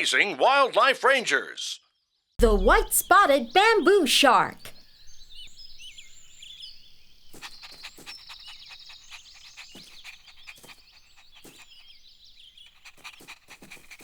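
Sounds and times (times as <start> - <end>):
chirping and trilling calls: 2.5 - 14.0.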